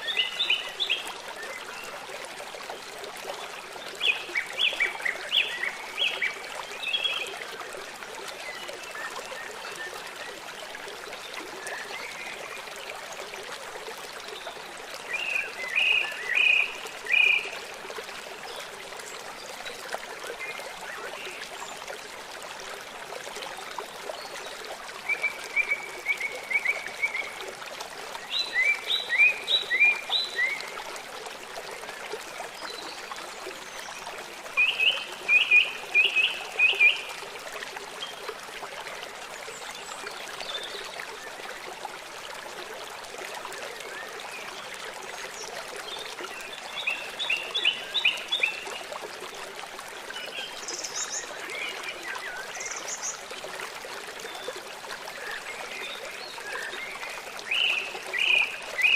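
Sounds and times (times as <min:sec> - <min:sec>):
river flowing: 0:00.0 - 0:58.9.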